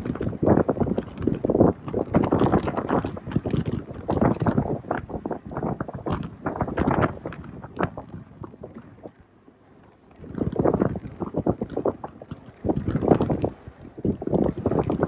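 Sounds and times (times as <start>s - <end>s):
wind buffeting microphone: 0.0s - 9.3s, 10.0s - 15.0s.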